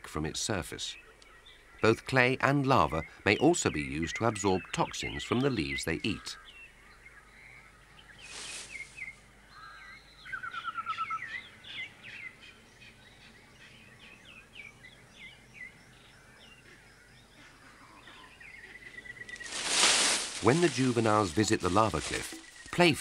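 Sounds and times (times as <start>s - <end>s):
birds chirping and whistling: 2.8s - 23.0s.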